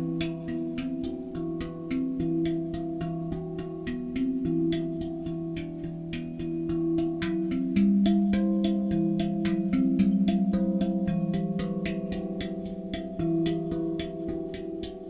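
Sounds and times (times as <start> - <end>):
steel tongue drum notes: 0.0 - 15.0.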